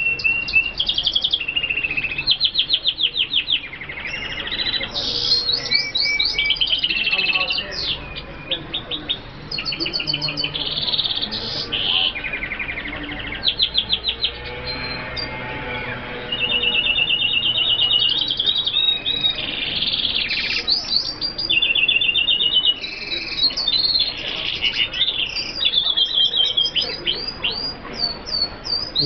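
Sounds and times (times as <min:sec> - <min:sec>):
birds twittering: 0:00.0 - 0:29.0.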